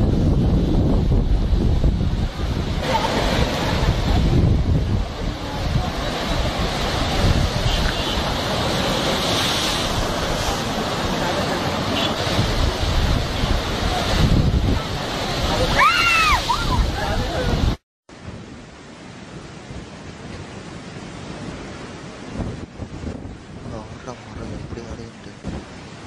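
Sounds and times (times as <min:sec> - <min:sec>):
wind buffeting microphone: 0:00.0 - 0:11.4, 0:12.2 - 0:26.0
sea waves breaking: 0:00.0 - 0:26.0.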